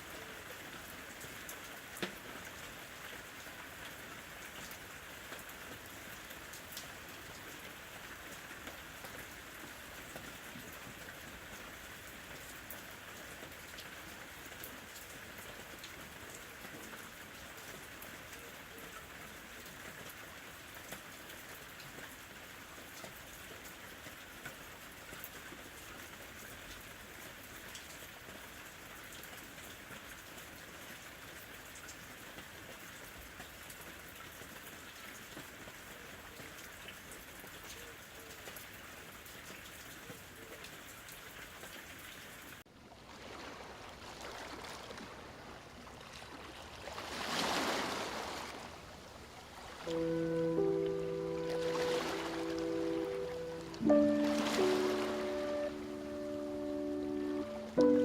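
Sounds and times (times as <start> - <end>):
steady rain falling: 0.0 - 42.7, 49.0 - 58.0.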